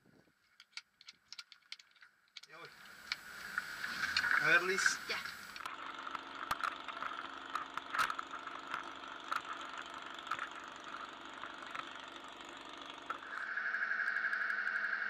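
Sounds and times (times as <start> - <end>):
car engine idling: 2.5 - 15.0.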